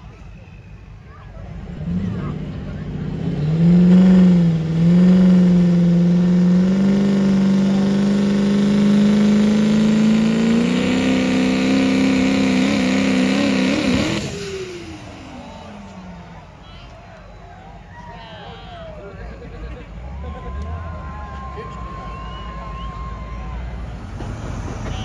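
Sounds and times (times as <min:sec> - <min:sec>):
diesel truck engine at high revs: 0:01.3 - 0:17.4, 0:19.2 - 0:25.0.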